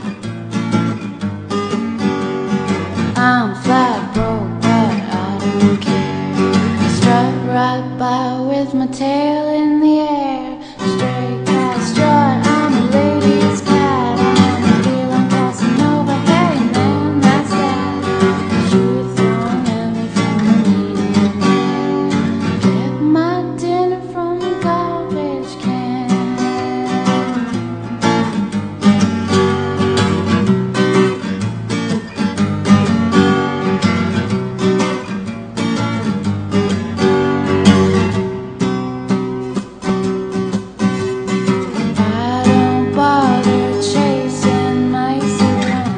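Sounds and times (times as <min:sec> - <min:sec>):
acoustic guitar strumming: 0:00.0 - 0:45.9
sliding guitar melody notes: 0:00.0 - 0:45.9.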